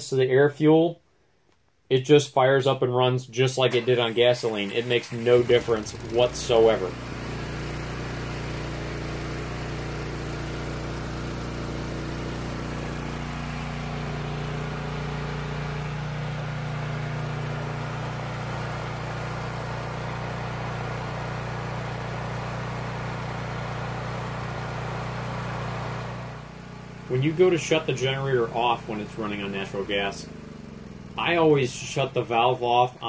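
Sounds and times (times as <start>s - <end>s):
generator engine humming: 3.7s - 33.0s.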